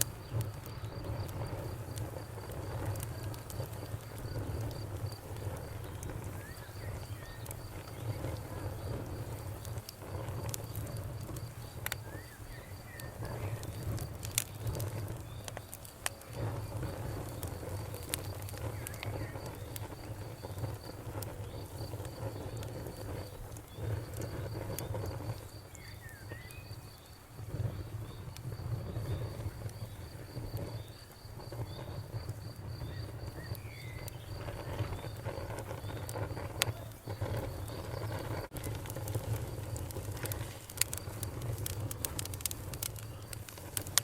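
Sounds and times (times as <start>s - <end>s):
bonfire crackling and popping: 0.0s - 44.0s
crickets chirping: 0.0s - 44.0s.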